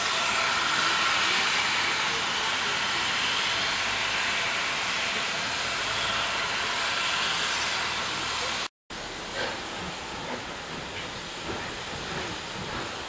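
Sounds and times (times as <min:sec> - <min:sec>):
steam hissing: 0:00.0 - 0:13.0
soft steam puffs: 0:00.8 - 0:13.0.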